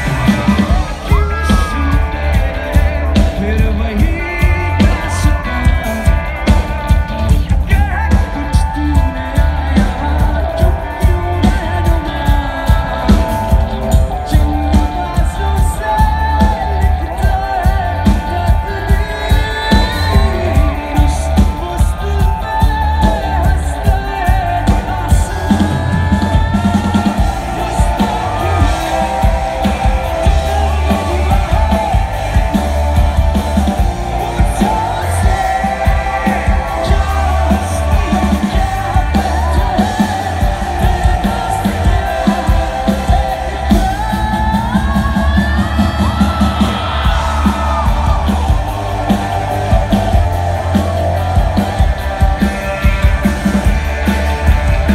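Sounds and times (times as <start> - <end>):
live rock band: 0.0 - 54.9
person singing lead vocal: 0.0 - 54.9.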